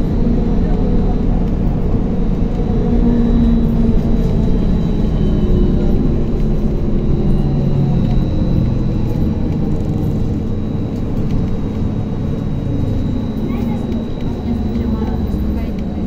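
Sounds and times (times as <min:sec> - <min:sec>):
tyres rumbling on road: 0:00.0 - 0:16.0.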